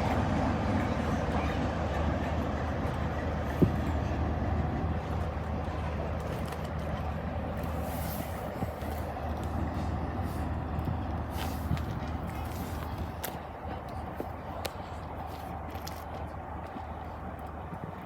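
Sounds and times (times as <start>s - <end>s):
diesel locomotive engine rumbling: 0.0s - 18.0s.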